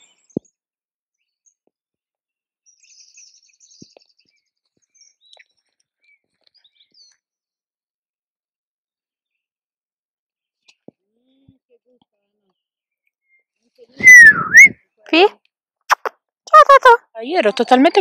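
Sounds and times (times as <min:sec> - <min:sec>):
faint woodland birdsong: 0:00.0 - 0:08.3, 0:09.1 - 0:15.6.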